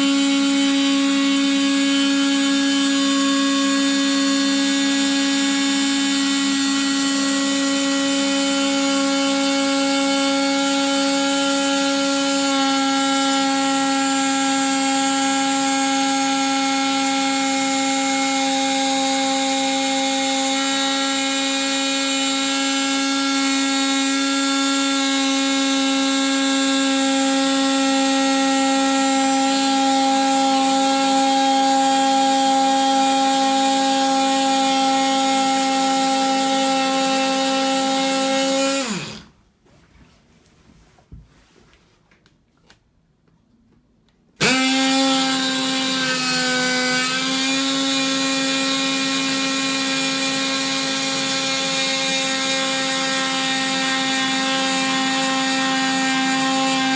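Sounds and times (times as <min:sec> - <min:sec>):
multi-tool cutting plastic sheet: 0:00.0 - 0:39.4, 0:44.3 - 0:56.9.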